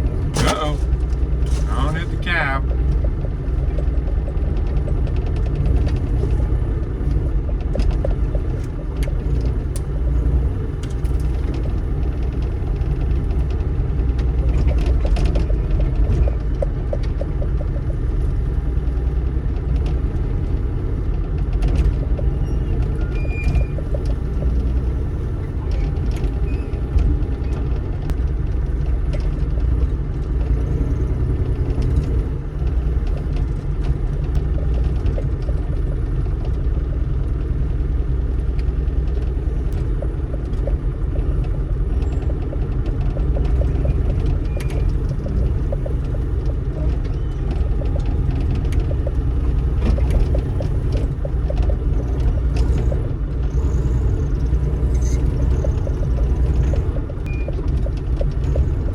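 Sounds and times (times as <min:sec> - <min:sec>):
excavator diesel engine rumbling: 0:00.0 - 0:58.9.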